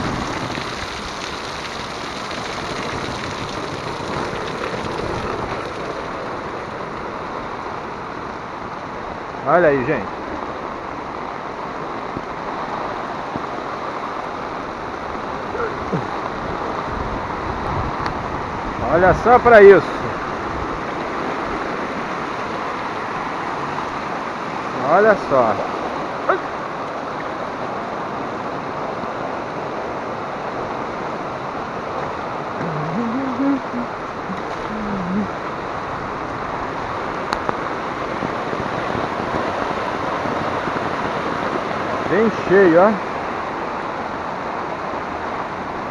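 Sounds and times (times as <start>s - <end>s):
heavy rain pouring: 0.0s - 45.9s
runoff water rushing: 0.0s - 45.9s.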